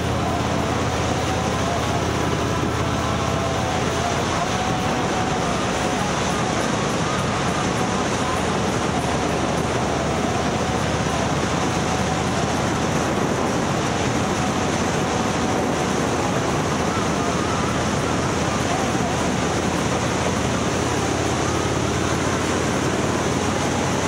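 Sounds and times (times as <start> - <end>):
faint steady whine: 0.0 - 24.0
road and wind noise: 0.0 - 24.0.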